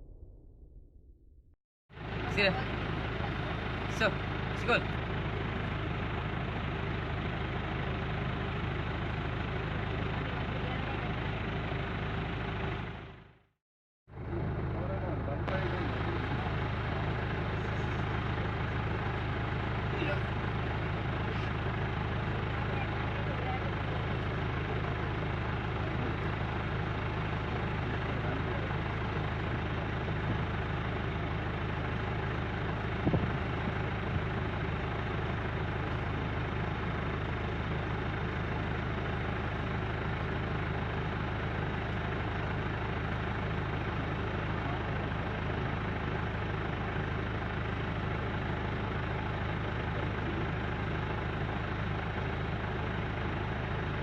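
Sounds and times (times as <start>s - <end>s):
engine idling: 1.9s - 54.0s.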